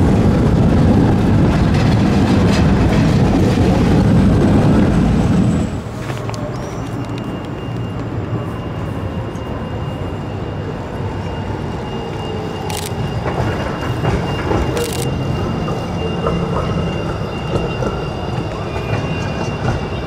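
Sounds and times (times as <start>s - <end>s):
traffic: 0.0s - 20.0s
tram running: 0.0s - 20.0s.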